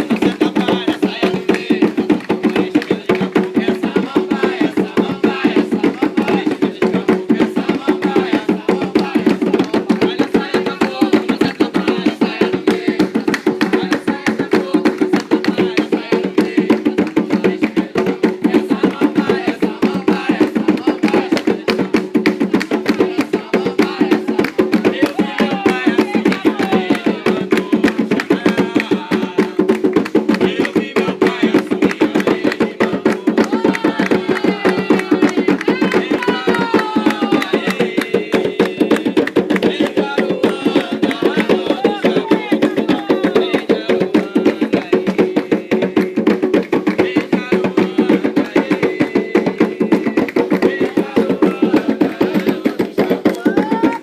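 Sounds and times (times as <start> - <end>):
fast hand-drum rhythm: 0.0 - 54.0.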